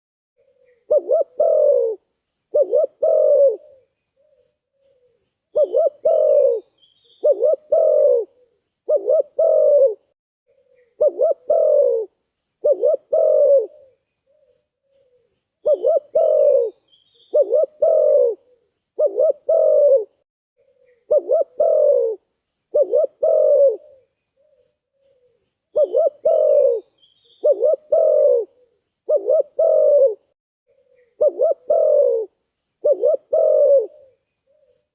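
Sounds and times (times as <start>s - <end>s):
faint high bird chirps: 0.4s - 9.9s, 10.5s - 34.9s
dove cooing: 0.4s - 34.9s.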